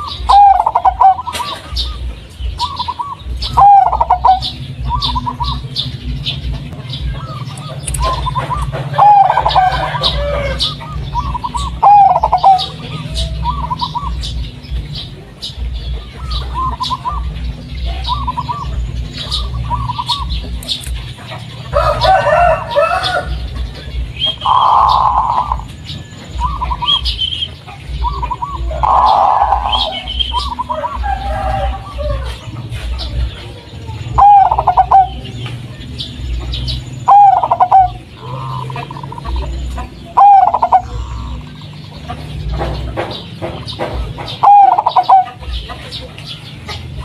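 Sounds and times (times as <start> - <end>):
dove cooing: 0.0 - 47.0
harsh bird calls: 0.0 - 47.0
small birds chirping: 0.0 - 47.0.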